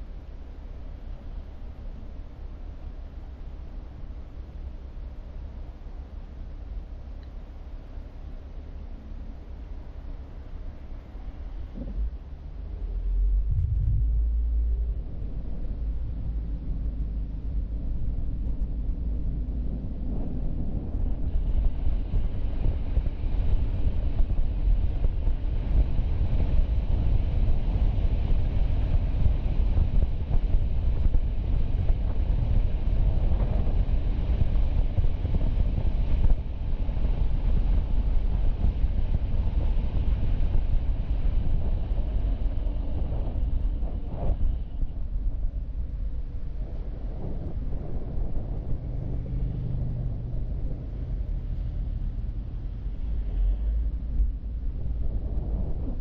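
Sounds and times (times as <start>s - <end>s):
road rumble and tyre noise: 0.0s - 56.0s
wind on microphone: 11.2s - 56.0s.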